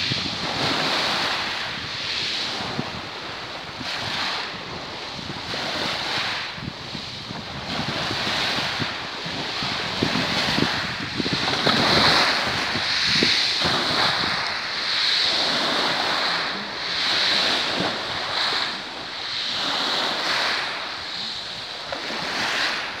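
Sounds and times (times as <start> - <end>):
small waves lapping: 0.0 - 23.0
wind buffeting microphone: 0.0 - 23.0.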